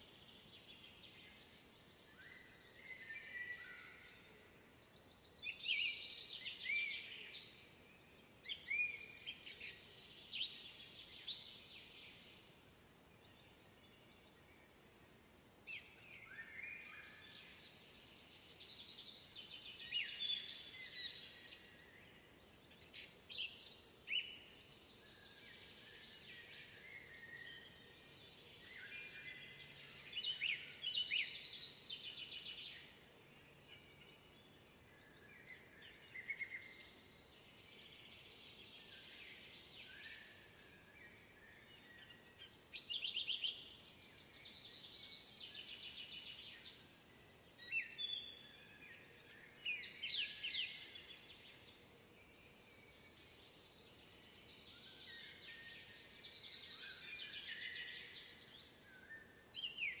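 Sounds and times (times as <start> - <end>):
faint steady hiss: 0.0 - 60.0
songbirds singing: 0.0 - 60.0.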